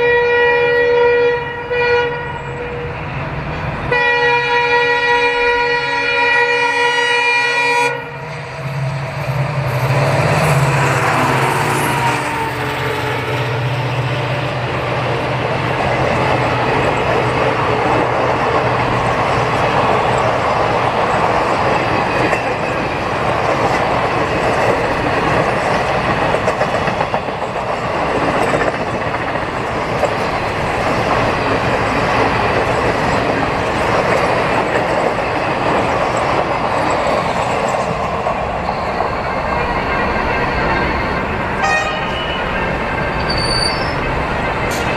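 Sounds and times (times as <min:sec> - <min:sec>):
train wheels rushing on rail: 0:00.0 - 0:44.9.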